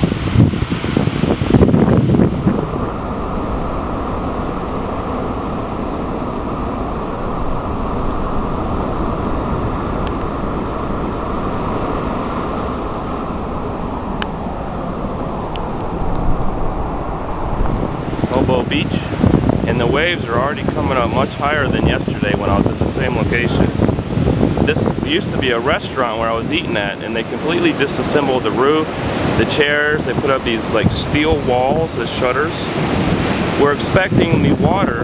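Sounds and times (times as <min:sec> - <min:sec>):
surf breaking on beach: 0:00.0 - 0:35.0
wind buffeting microphone: 0:00.0 - 0:35.0.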